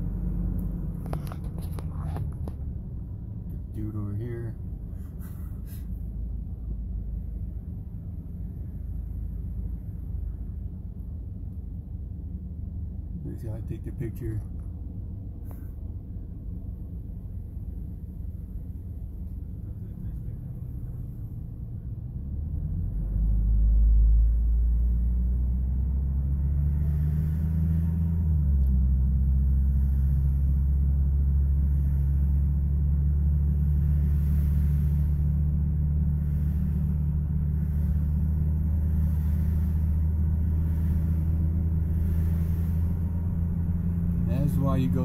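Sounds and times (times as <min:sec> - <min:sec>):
road noise: 0:00.0 - 0:45.0
truck engine: 0:00.0 - 0:45.0.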